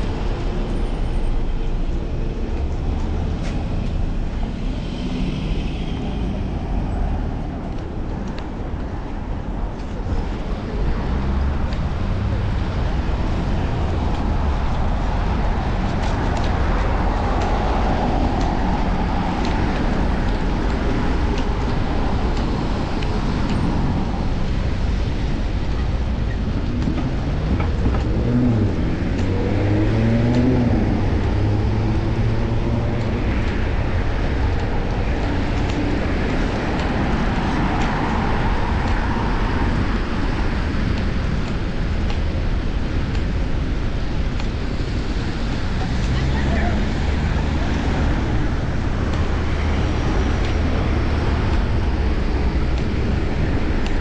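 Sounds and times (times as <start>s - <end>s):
passing vehicle engine: 0.0s - 54.0s
street traffic: 0.0s - 54.0s.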